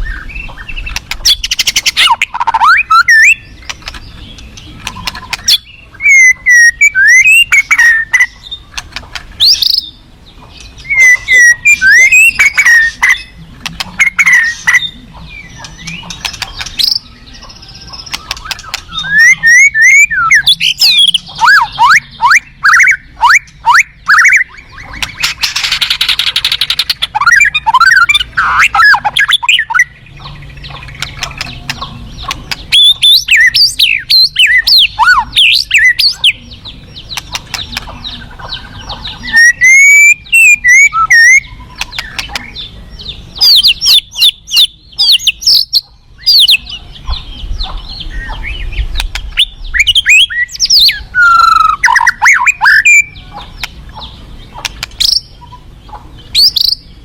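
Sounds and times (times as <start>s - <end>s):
bird singing whistled song: 0.0s - 8.8s, 9.4s - 10.0s, 10.6s - 13.4s, 14.0s - 37.9s, 38.5s - 54.1s, 56.3s - 57.0s.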